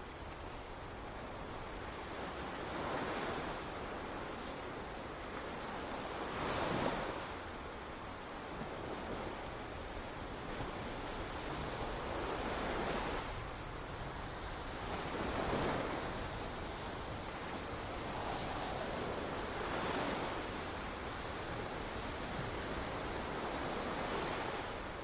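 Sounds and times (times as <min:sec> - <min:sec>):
ocean waves washing onto beach: 0:00.0 - 0:25.0.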